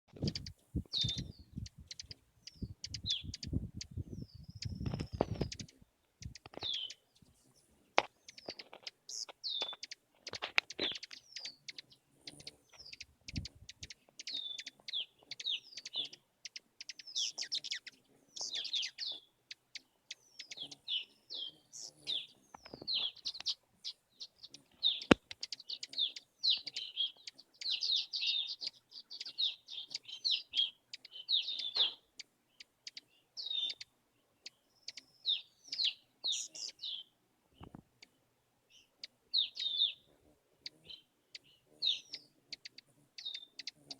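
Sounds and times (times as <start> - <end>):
hummingbirds chittering: 0.2 - 37.1, 38.8 - 43.9.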